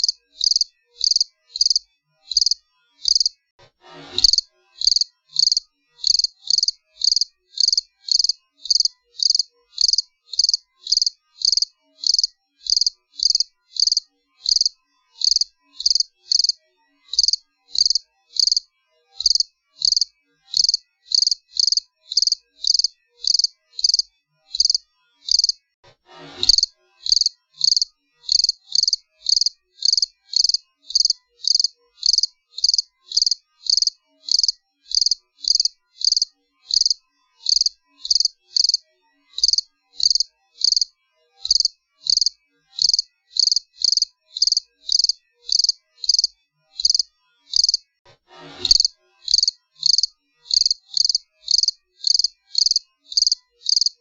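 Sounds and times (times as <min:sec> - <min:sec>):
cricket chirping: 0:00.0 - 0:03.3, 0:04.2 - 0:18.6, 0:19.2 - 0:25.6, 0:26.5 - 0:38.8, 0:39.4 - 0:47.8, 0:48.7 - 0:54.0.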